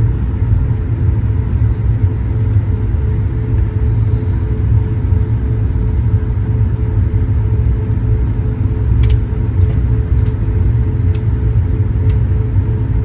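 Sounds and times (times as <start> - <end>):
constant hum: 0.0 - 13.0
jet engine rumble in cabin: 0.0 - 13.0.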